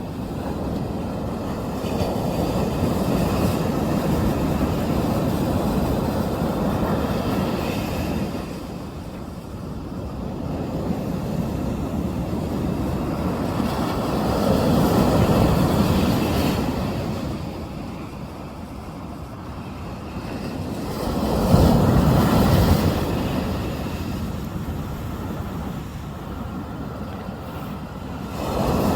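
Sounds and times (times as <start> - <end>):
waves breaking on shore: 0.0 - 28.9.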